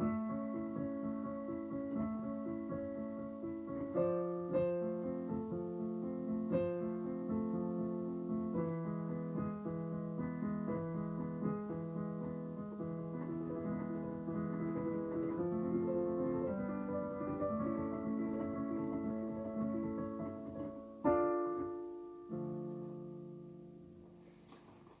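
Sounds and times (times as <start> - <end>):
digital piano chords: 0.0 - 25.0.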